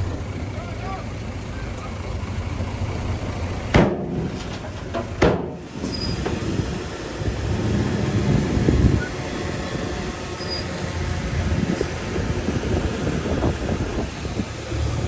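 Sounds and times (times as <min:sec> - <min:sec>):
heavy machinery rumbling: 0:00.0 - 0:15.0.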